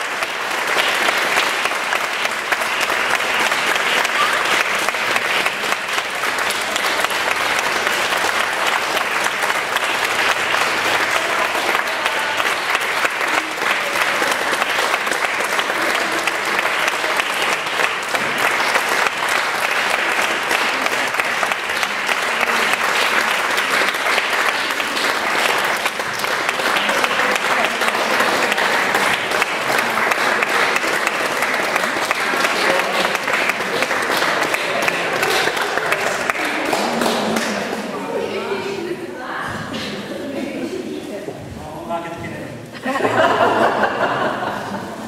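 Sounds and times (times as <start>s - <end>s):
audience applauding: 0.0s - 38.8s.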